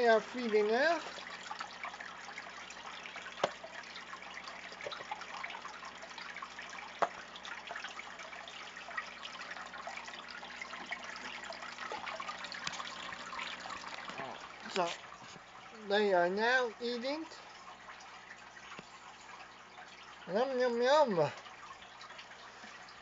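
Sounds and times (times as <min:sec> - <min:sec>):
aquarium water trickling and bubbling: 0:00.0 - 0:23.0.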